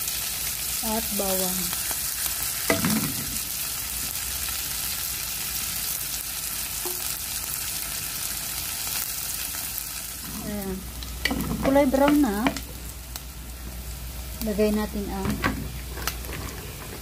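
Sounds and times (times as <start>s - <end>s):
onion and garlic sizzling in oil: 0.0s - 17.0s.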